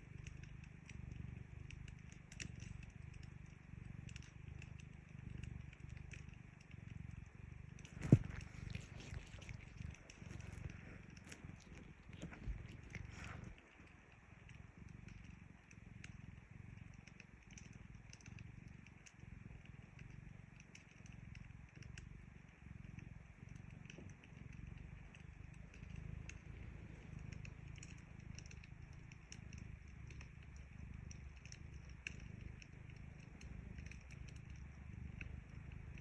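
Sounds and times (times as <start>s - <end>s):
cat purring: 0.0s - 36.0s
wood fire crackling: 0.0s - 36.0s.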